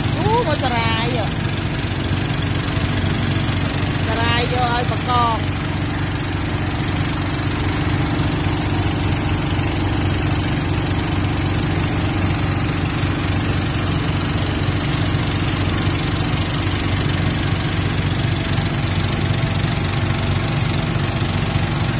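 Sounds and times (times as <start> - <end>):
boat engine running: 0.0 - 21.9
water washing along hull: 0.0 - 21.9.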